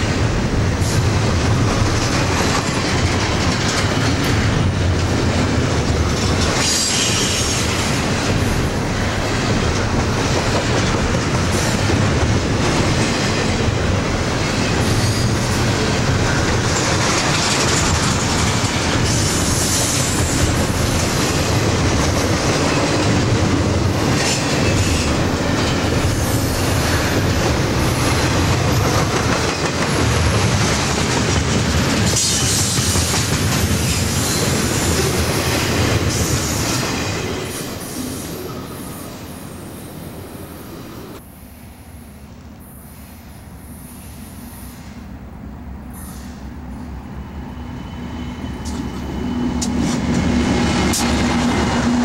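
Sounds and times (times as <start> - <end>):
train wheels clattering on rails: 0.0 - 39.0, 48.0 - 52.0.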